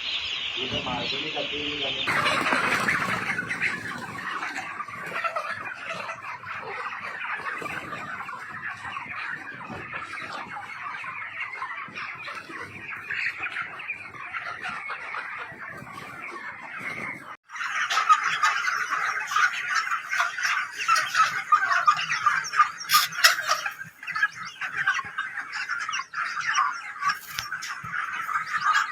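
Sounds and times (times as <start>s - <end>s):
chicks peeping: 0.0s - 28.9s.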